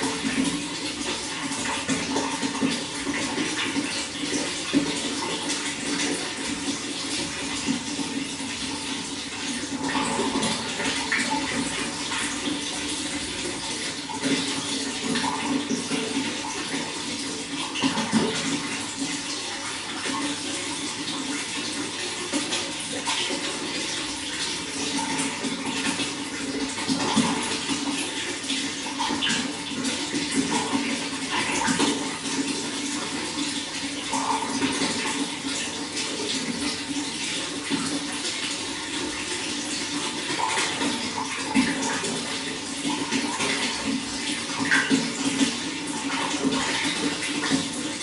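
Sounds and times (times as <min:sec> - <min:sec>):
running water flowing: 0:00.0 - 0:48.0.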